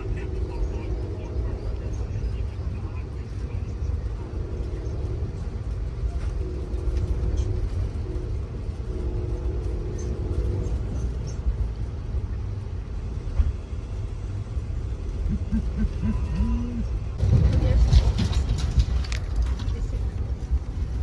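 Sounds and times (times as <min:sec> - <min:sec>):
train car rumbling on track: 0:00.0 - 0:21.0.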